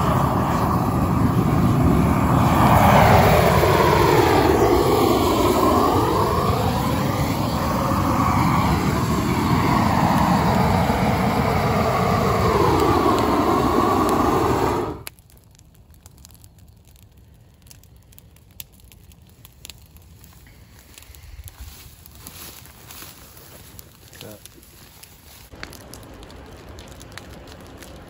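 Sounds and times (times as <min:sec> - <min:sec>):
propane torch roaring: 0:00.0 - 0:15.2, 0:19.3 - 0:28.0
burning brush crackling: 0:00.0 - 0:28.0.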